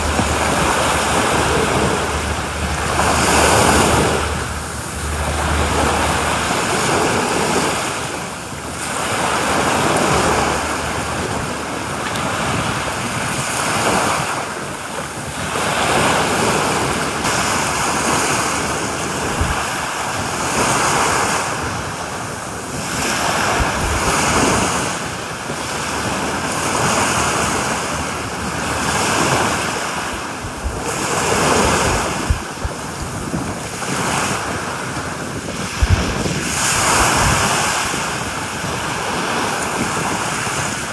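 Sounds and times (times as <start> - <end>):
waves breaking on a beach: 0.0 - 40.9
wind thumping on microphone: 0.0 - 40.9.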